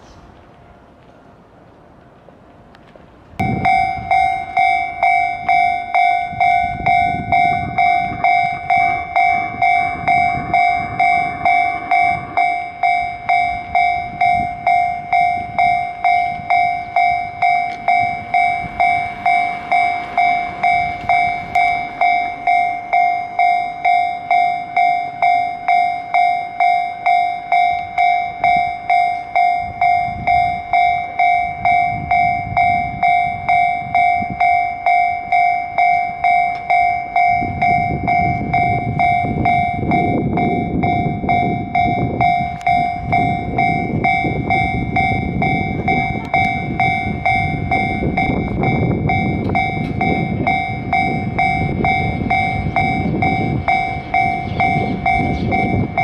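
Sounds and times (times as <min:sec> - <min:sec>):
level crossing bell ringing: 0:03.4 - 0:56.0.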